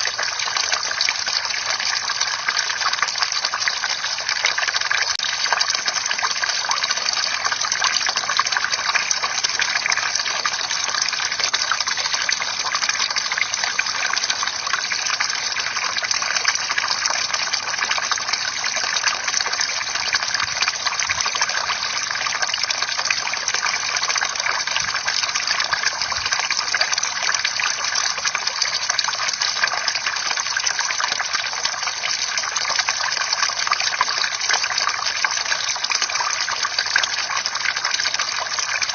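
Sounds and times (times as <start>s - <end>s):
fountain water splashing into basin: 0.0s - 38.9s.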